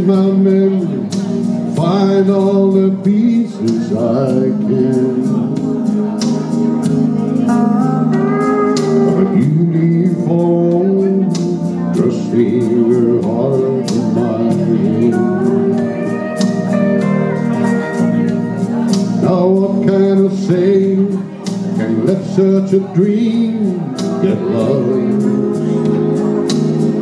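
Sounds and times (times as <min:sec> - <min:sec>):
regular drum beat: 0:00.0 - 0:27.0
sliding lead melody: 0:00.0 - 0:27.0
steady bass: 0:00.0 - 0:27.0.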